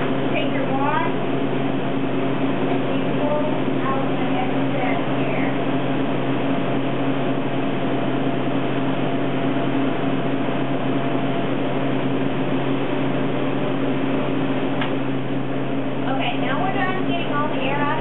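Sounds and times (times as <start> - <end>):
machinery hum and fan noise: 0.0 - 18.0.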